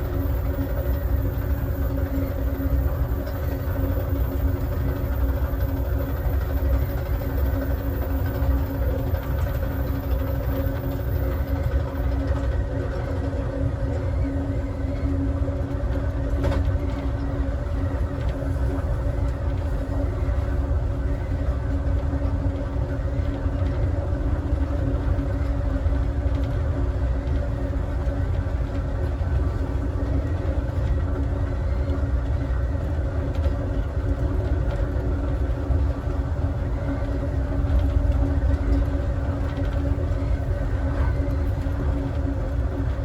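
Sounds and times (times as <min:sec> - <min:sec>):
steady hum: 0:00.0 - 0:43.0
train wheels rumbling on rail: 0:00.0 - 0:43.0.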